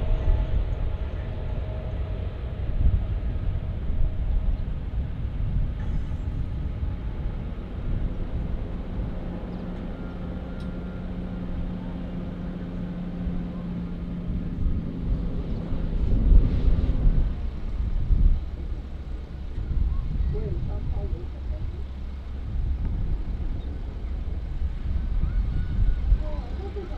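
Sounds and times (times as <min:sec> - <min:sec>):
jet engines rumbling: 0:00.0 - 0:26.9
steady low hum: 0:00.0 - 0:26.9.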